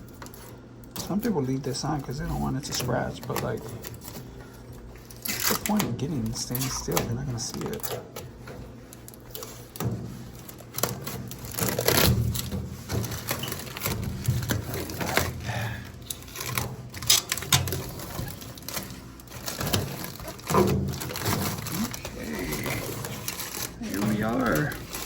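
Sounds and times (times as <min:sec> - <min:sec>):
plastic film peeling and crackling: 0:00.0 - 0:25.0.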